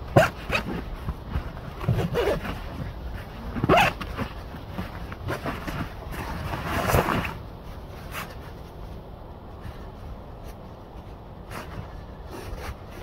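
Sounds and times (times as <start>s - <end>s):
nylon fabric rustling: 0.0s - 13.0s.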